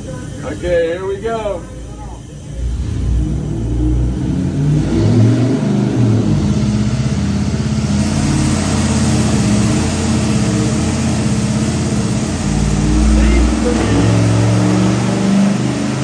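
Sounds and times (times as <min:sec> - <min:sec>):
engine running hard on dynamometer: 0:02.4 - 0:16.0.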